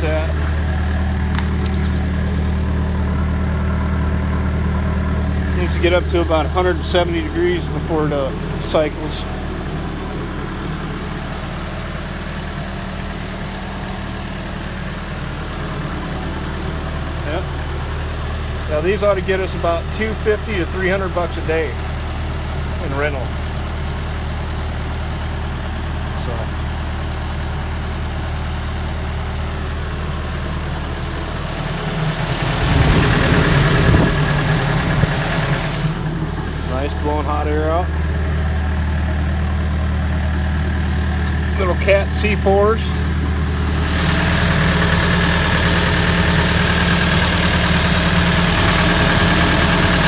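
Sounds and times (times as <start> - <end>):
diesel heater idling: 0.0 - 50.0.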